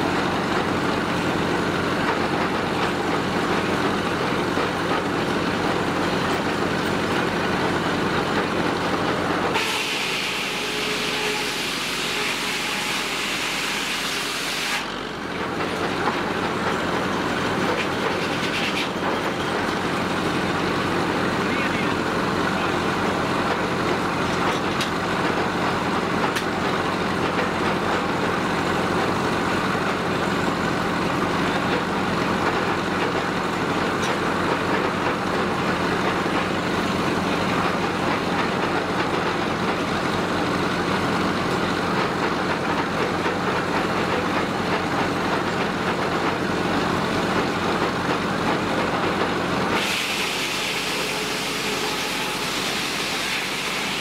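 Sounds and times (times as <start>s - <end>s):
sawmill engine chugging: 0.0s - 54.0s.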